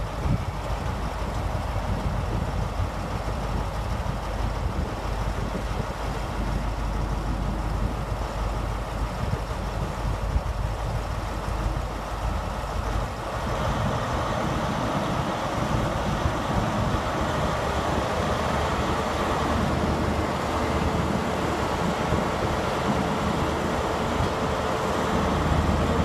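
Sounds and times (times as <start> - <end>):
diesel train engine running: 0.0 - 26.0.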